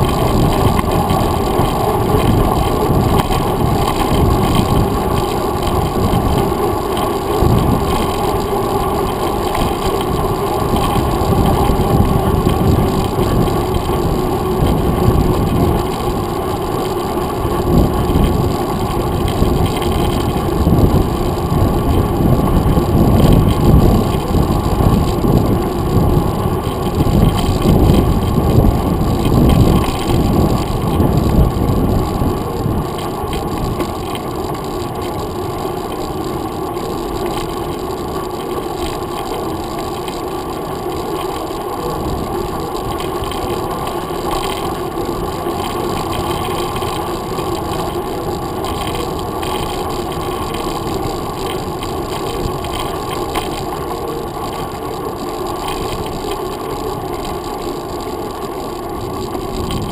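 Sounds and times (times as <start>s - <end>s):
deep rumble of bike riding: 0.0s - 59.9s.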